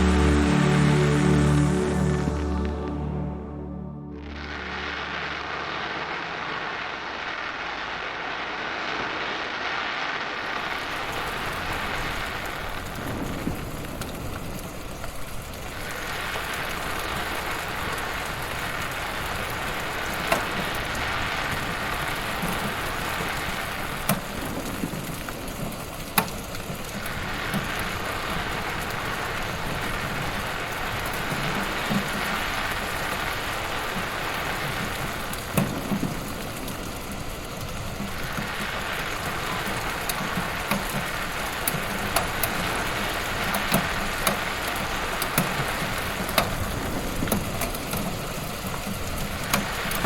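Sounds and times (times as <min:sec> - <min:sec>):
wood fire crackling: 0:00.0 - 0:08.9, 0:09.5 - 0:50.0.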